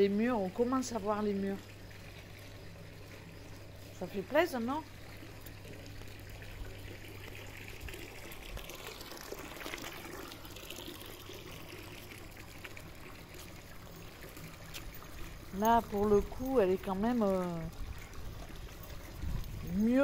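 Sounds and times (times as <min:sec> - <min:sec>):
low steady hum: 0:00.0 - 0:20.0
water trickling and splashing: 0:00.0 - 0:20.0.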